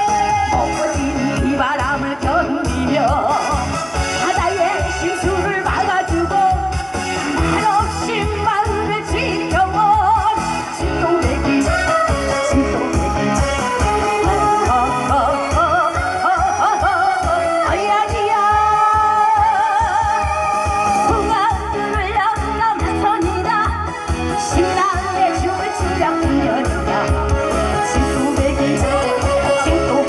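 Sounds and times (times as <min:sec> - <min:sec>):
backing track with bass beat: 0:00.0 - 0:30.0
woman singing into microphone: 0:00.0 - 0:30.0.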